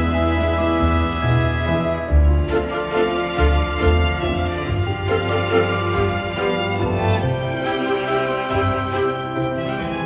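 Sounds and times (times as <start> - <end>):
slow string music with violin: 0.0 - 10.0.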